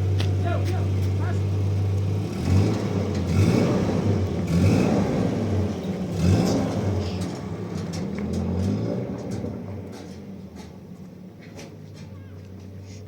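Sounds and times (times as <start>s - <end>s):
car engine revving unevenly: 0.0s - 11.7s.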